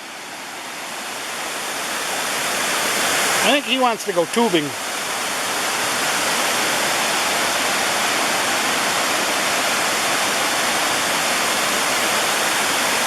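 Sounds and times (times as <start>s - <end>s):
water pouring over waterfall: 0.0s - 13.0s.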